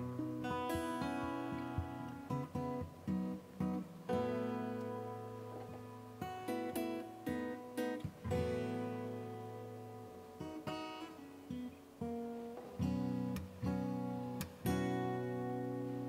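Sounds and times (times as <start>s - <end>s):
acoustic guitar plucked chords: 0.0s - 16.0s.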